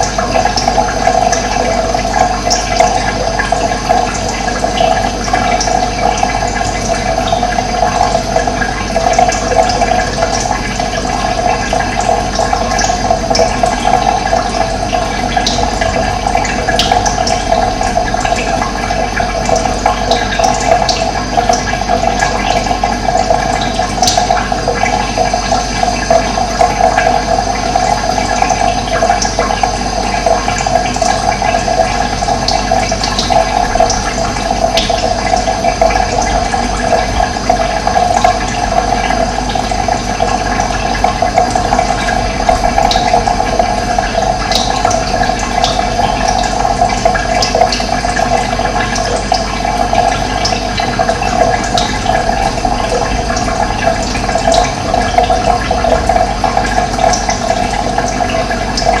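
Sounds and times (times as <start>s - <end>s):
water rushing: 0.0s - 29.4s, 30.0s - 59.0s.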